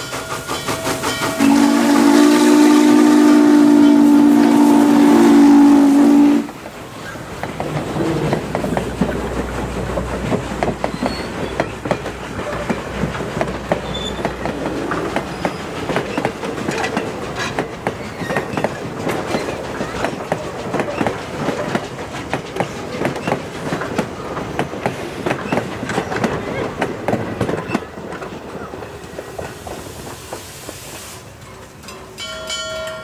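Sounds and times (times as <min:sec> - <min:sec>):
train rumble: 0:00.0 - 0:33.0
train wheels clicking on rail joints: 0:00.0 - 0:33.0.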